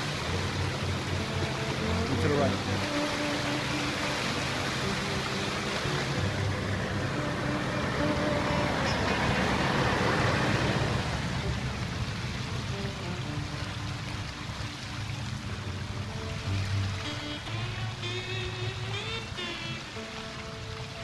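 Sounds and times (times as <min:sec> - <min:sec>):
road vehicle passing: 0:00.0 - 0:21.0
soft background music: 0:00.0 - 0:21.0.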